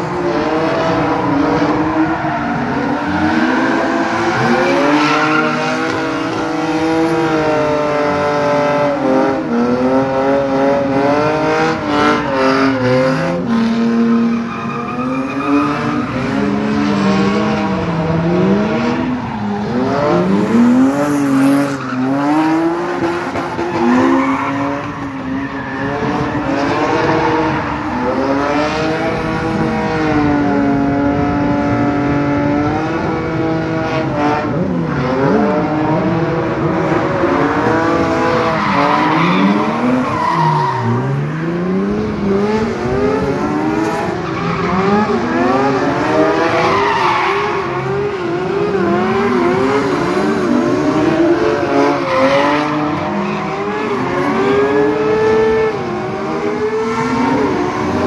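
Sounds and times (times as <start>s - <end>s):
tyres squealing and skidding: 0.0s - 30.2s, 34.6s - 58.0s
engines revving: 0.0s - 58.0s.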